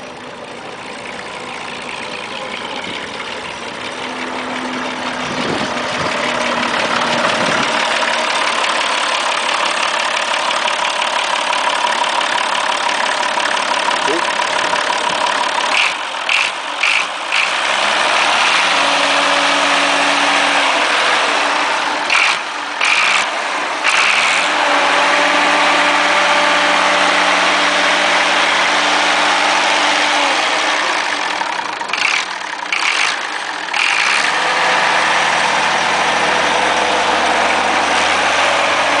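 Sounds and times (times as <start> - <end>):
tractor diesel engine revving: 0.0 - 39.0.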